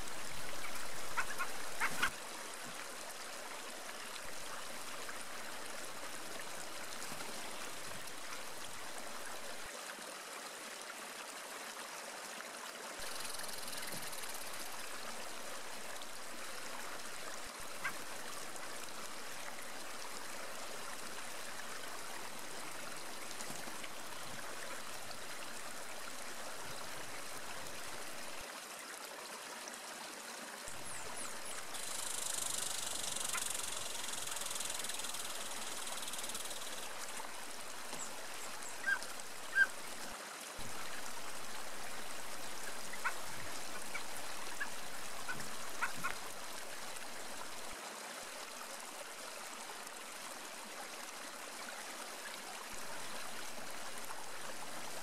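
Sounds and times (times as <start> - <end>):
flowing stream rushing: 0.0 - 55.0.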